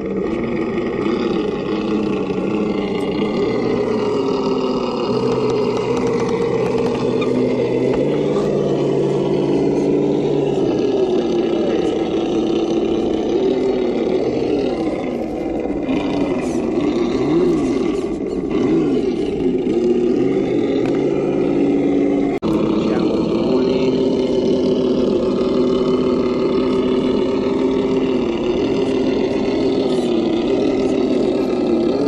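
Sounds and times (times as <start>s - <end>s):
rc car electric motor whining: 0.0s - 32.0s.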